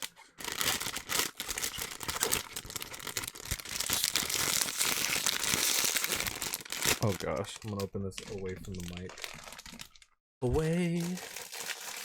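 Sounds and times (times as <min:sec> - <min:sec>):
crinkly plastic packaging rustling: 0:00.0 - 0:12.0.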